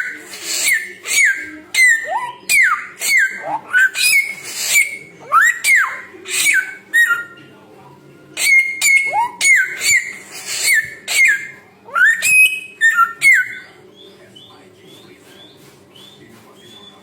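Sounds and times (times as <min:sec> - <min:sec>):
songbird whistled calls: 0:00.0 - 0:07.4, 0:08.4 - 0:17.0.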